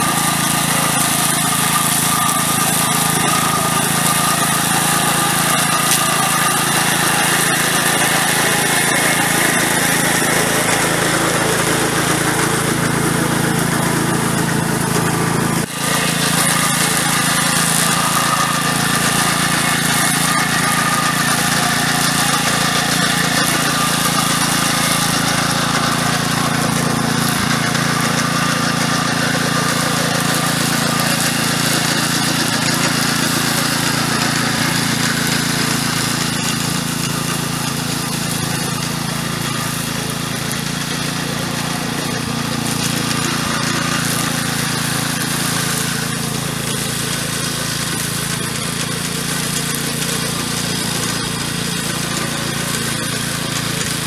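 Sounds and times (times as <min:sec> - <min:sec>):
engine hum: 0:00.0 - 0:54.0
whirr of spinning cutter drum: 0:00.0 - 0:54.0.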